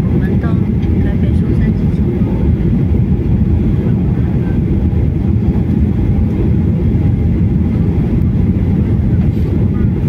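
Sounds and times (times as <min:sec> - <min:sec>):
vehicle rumbling in motion: 0:00.0 - 0:10.0.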